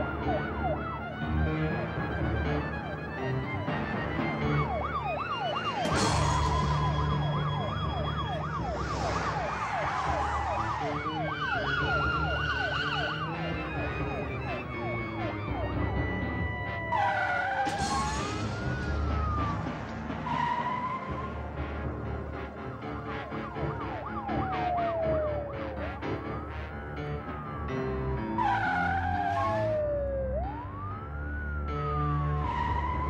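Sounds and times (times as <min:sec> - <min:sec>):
police siren yelping: 0:00.0 - 0:33.0
police sirens wailing: 0:00.0 - 0:33.0.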